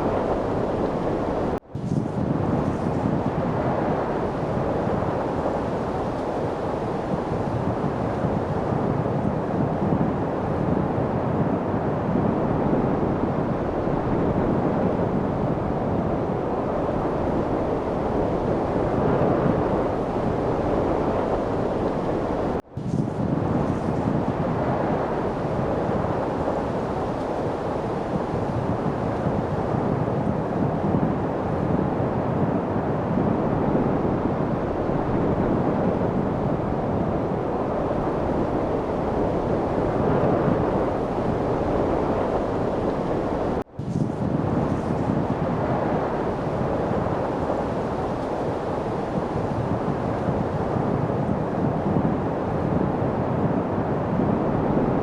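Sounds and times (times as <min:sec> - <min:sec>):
steady wind rushing: 0:00.0 - 0:55.0.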